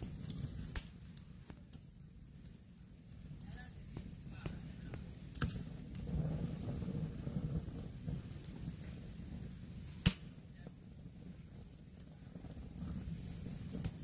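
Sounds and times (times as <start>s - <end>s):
low fire rumble: 0.0s - 14.0s
wood popping in campfire: 0.0s - 14.0s.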